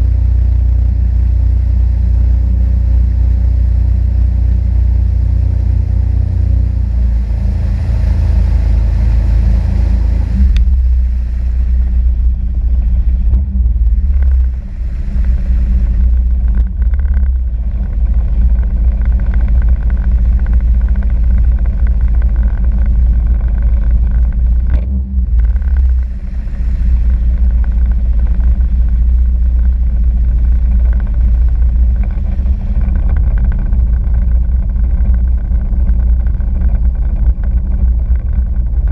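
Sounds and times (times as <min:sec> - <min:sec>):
jet ski engine drone: 0:00.0 - 0:38.9.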